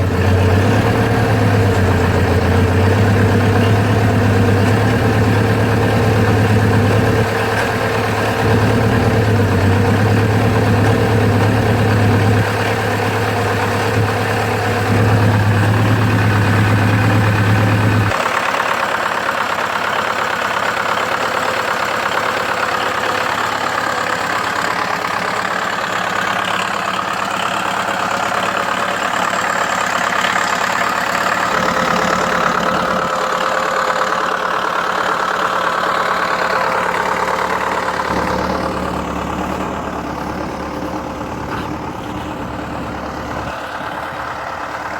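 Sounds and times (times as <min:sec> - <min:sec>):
diesel tractor engine running: 0:00.0 - 0:44.9.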